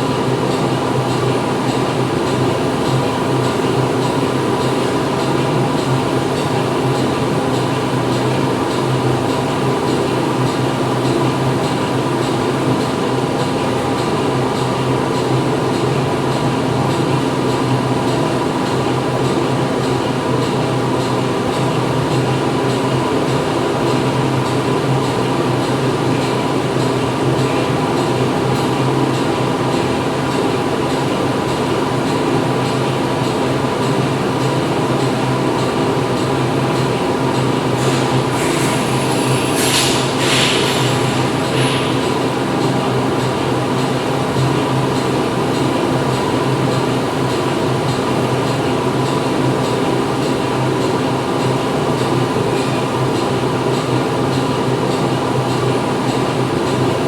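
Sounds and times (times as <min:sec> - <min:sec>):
factory machinery hum: 0:00.0 - 0:57.0.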